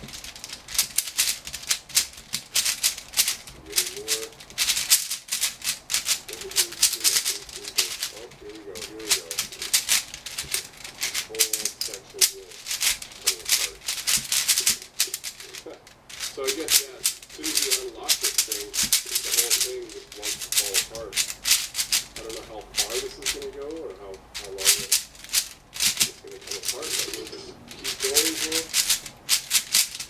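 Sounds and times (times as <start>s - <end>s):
plastic puzzle pieces clicking: 0.0s - 30.0s.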